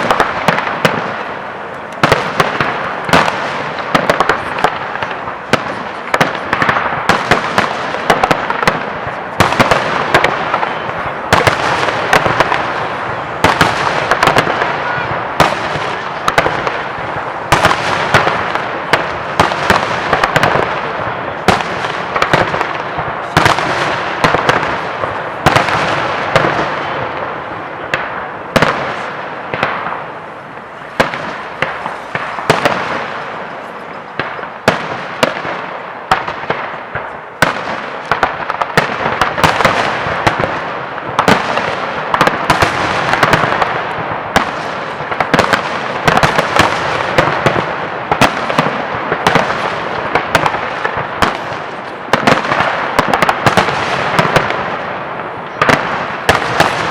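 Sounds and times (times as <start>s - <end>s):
fireworks crackling: 0.0s - 56.9s.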